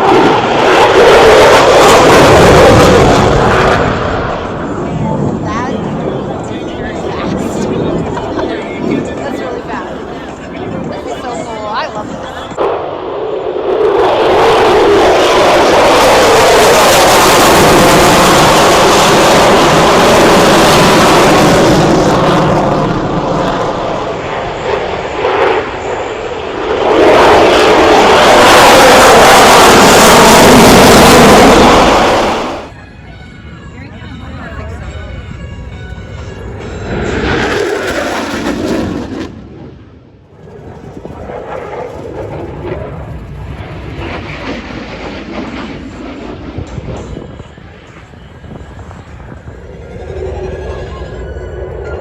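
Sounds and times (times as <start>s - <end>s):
aircraft engine flying by: 0.0s - 52.0s.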